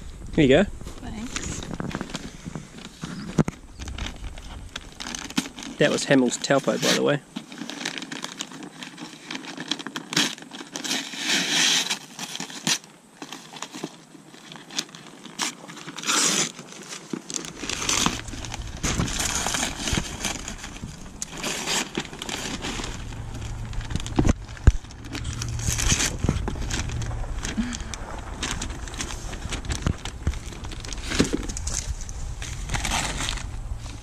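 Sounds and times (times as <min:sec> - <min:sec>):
paper tearing and crumpling: 0:01.2 - 0:34.0.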